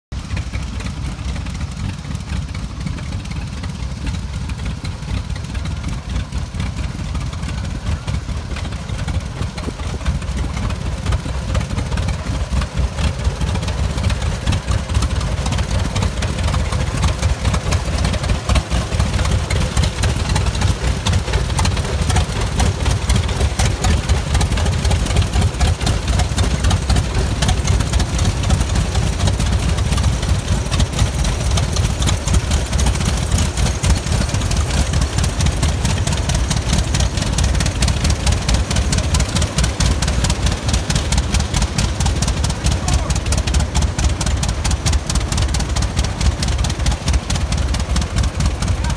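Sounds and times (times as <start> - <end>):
tractor engine idling: 0.1 - 48.9.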